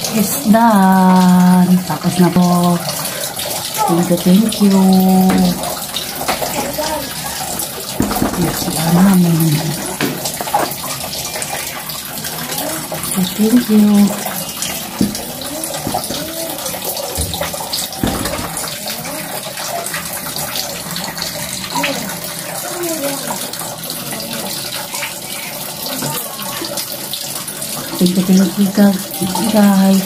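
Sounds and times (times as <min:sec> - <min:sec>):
water running from a tap: 0:00.0 - 0:30.0.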